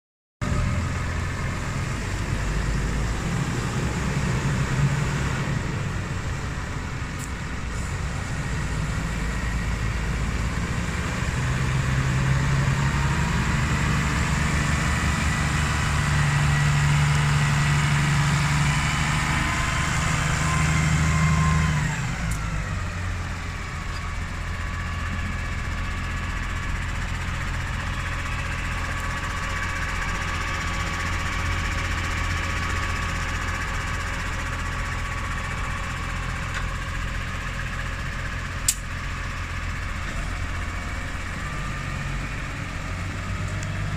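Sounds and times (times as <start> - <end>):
engine whine: 0.4 - 43.9
tractor diesel engine running: 0.4 - 43.9.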